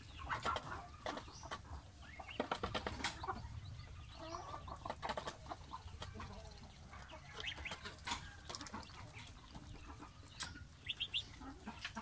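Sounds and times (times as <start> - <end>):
goslings peeping: 0.0 - 12.0.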